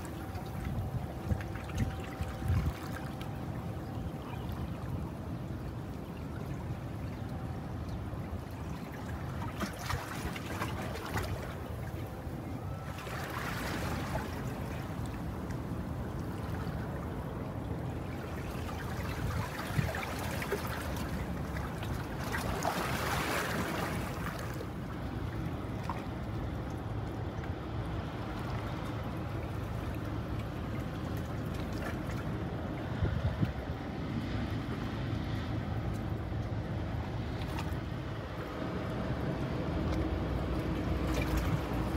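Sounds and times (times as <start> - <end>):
water lapping and splashing: 0.0 - 41.9.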